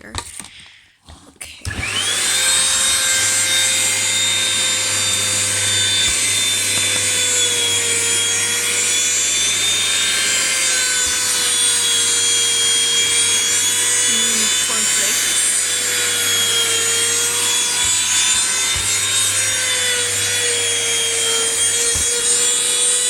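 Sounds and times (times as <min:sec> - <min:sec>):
vacuum cleaner motor whine: 0:01.6 - 0:23.0.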